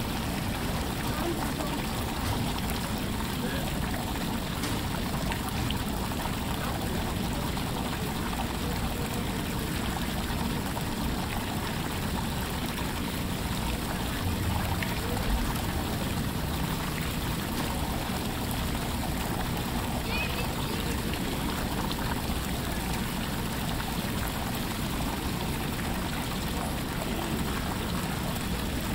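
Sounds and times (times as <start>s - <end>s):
running water rushing and trickling: 0.0s - 28.9s.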